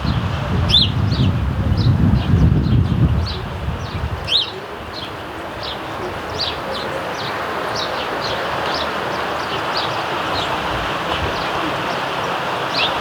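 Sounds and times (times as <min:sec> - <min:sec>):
sparrows chirping: 0:00.1 - 0:13.0.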